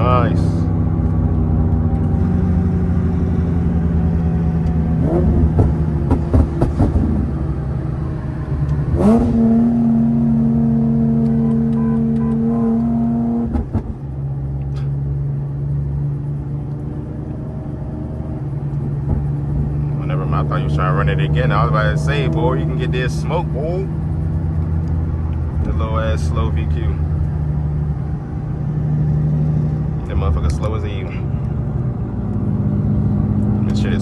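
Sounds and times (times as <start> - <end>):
car engine with loud exhaust: 0.0 - 34.0.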